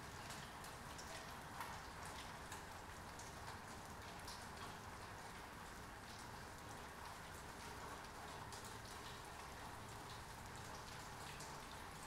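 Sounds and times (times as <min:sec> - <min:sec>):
rain falling on wet pavement: 0:00.0 - 0:12.0.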